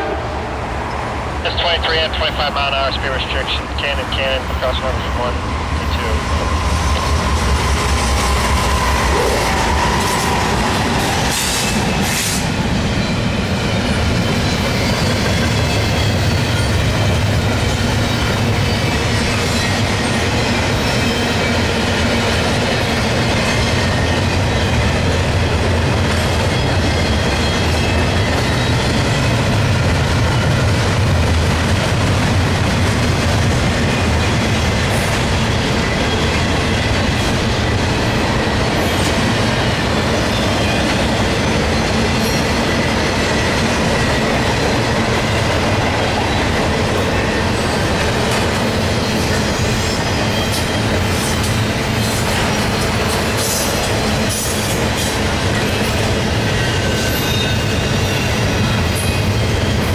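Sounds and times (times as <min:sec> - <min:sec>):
diesel locomotive engine drone: 0:00.0 - 0:59.9
train wheels clattering on rails: 0:06.3 - 0:59.9.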